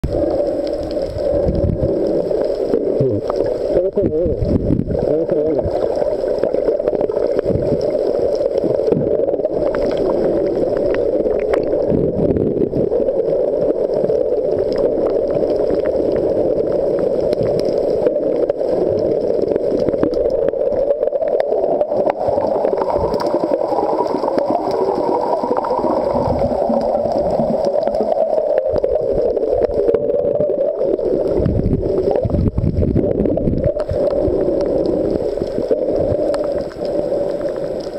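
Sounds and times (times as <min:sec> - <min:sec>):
low water surges: 0:00.0 - 0:37.9
muffled underwater rushing water: 0:00.0 - 0:37.9.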